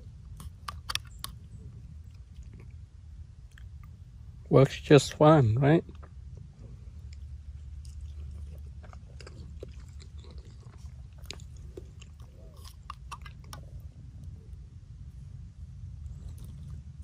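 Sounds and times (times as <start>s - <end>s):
person chewing: 0.0s - 4.2s, 5.9s - 14.6s, 16.0s - 17.0s.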